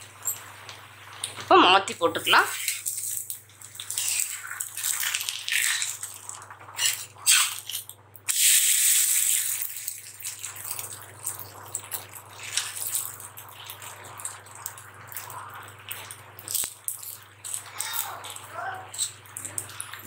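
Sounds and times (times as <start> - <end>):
batter sizzling on a griddle: 0.0 - 20.0.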